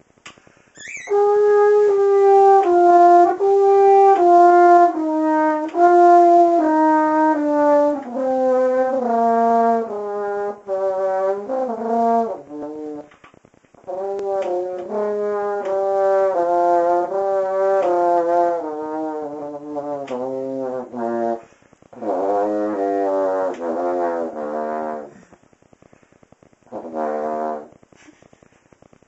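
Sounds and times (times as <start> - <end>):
solo brass horn: 1.0 - 13.1, 13.8 - 25.4, 26.7 - 27.8.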